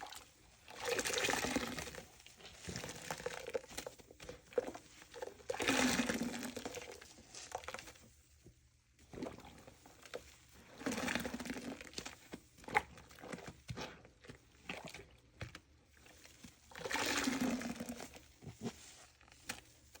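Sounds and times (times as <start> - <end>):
water gushing from squeezed sponge: 0.0 - 8.1, 9.0 - 20.0.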